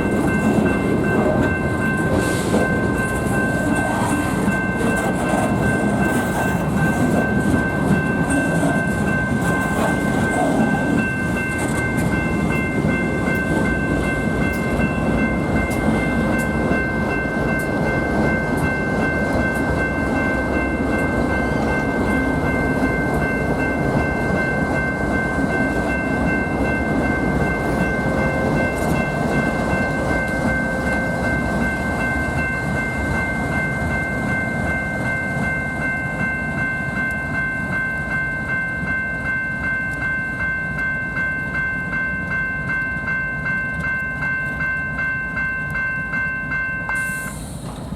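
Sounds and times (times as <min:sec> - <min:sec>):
high-pitched ring: 0:00.0 - 0:47.6
freight train cars rumbling: 0:00.0 - 0:47.9.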